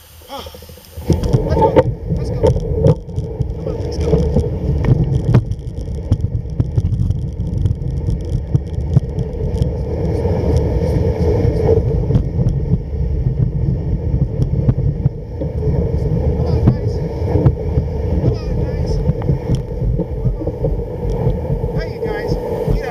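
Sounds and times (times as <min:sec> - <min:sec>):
sled runners rumbling on snow: 0:00.0 - 0:22.9.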